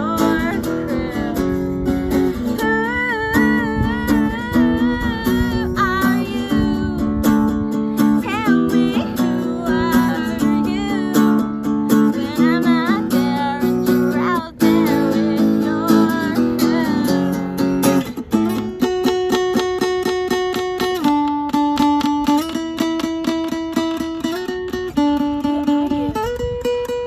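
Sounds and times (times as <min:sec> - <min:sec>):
acoustic guitars playing: 0:00.0 - 0:27.0.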